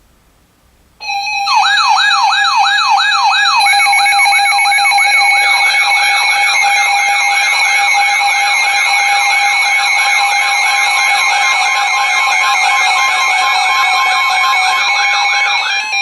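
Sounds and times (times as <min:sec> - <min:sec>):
pulsing tone: 0:01.0 - 0:16.0
weather radio alarm siren tones: 0:01.0 - 0:16.0.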